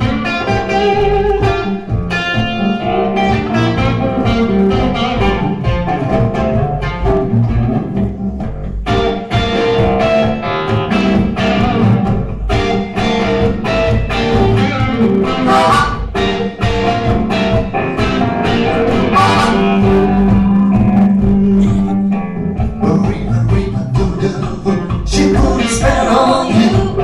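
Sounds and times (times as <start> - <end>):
electric guitar: 0.0 - 27.0
live band playing blues: 0.0 - 27.0.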